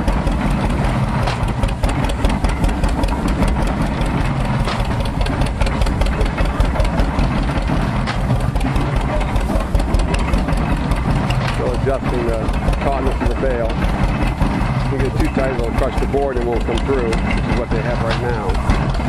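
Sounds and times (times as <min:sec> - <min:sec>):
baler machinery clicking and clattering: 0:00.0 - 0:19.0
tractor engine running: 0:00.0 - 0:19.0.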